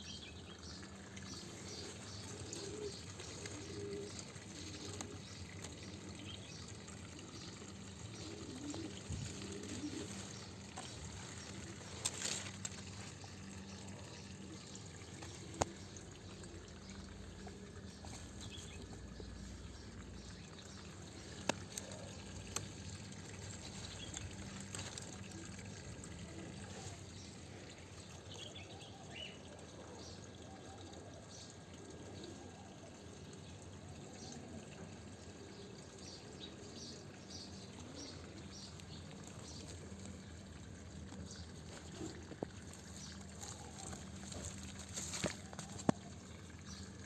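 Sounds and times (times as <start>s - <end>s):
water trickling and pouring: 0.0s - 47.0s.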